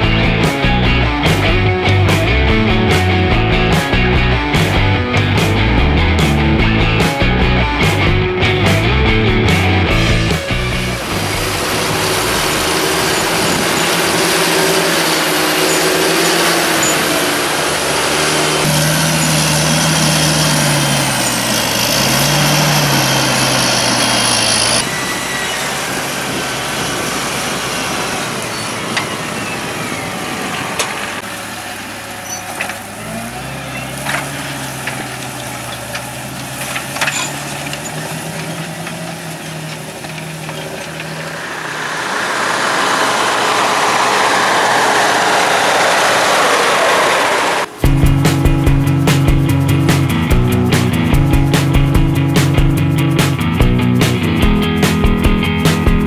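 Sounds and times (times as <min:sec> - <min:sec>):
tractor diesel engines: 0:00.0 - 0:56.0.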